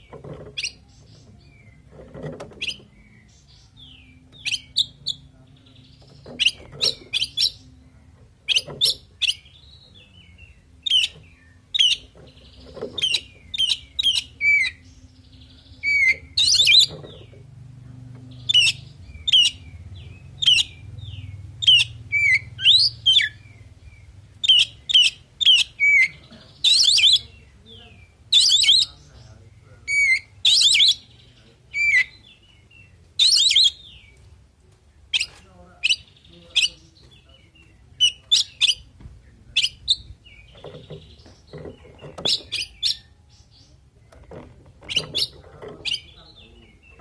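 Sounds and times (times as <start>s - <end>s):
songbird singing: 0.0s - 47.0s.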